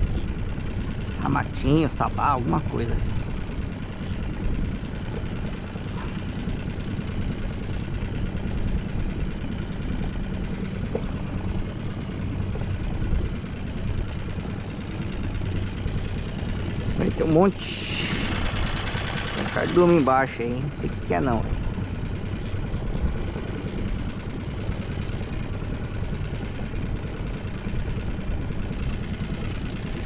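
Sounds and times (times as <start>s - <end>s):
boat engine idling: 0.0s - 30.0s.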